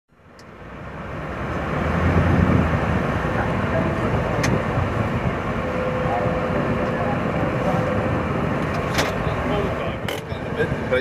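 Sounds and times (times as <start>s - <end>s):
vehicle engine idling: 0.1s - 11.0s
outdoor crowd noise: 0.5s - 11.0s.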